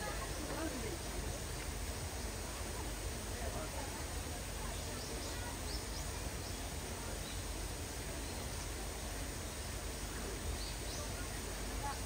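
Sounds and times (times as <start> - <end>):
light rain hiss: 0.0 - 12.0.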